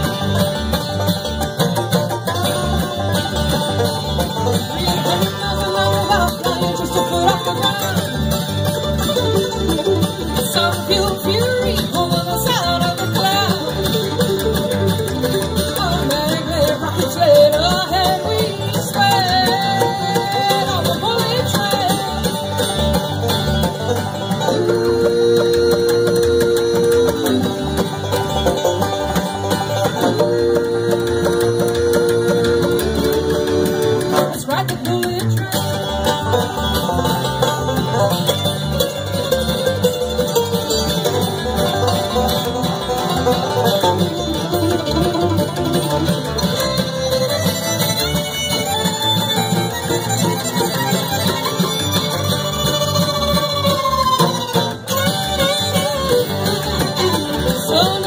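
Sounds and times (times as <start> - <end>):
fast bluegrass band playing: 0.0 - 58.0
long held fiddle notes: 0.0 - 58.0.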